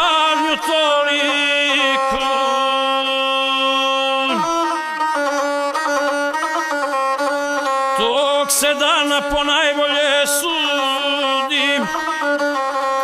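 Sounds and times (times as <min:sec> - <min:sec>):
bowed single-string fiddle: 0:00.0 - 0:13.0.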